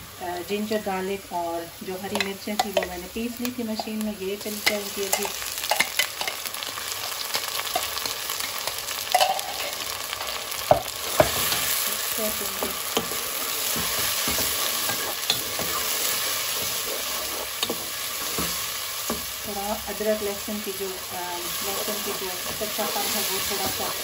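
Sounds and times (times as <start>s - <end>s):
paste sizzling in hot oil: 0.8s - 24.0s.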